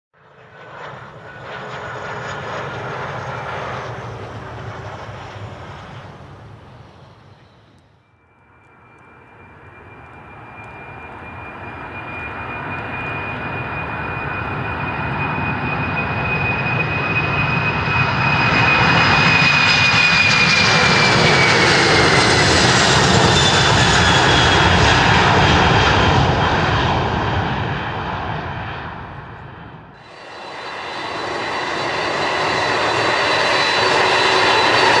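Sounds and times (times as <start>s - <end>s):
jet airliner engines passing: 0.2s - 35.0s.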